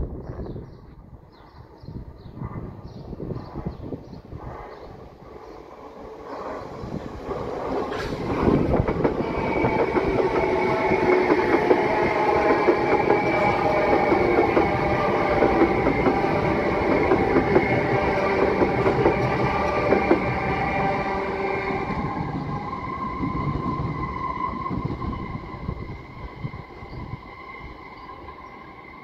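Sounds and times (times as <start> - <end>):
train whine: 4.4 - 29.0.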